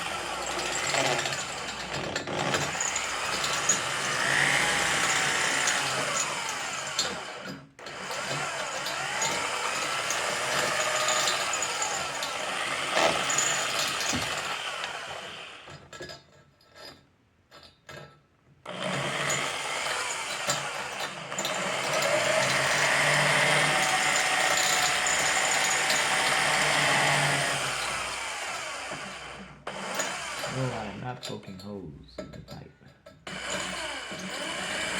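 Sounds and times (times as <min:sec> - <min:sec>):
power tool on steel pipe: 0:00.0 - 0:15.8, 0:18.7 - 0:31.1, 0:33.2 - 0:34.9.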